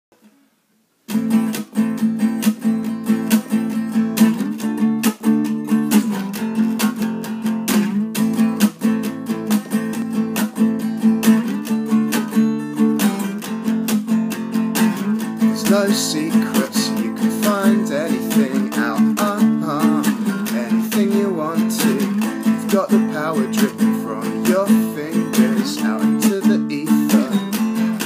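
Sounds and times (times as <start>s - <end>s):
acoustic guitar strumming: 1.1s - 28.0s.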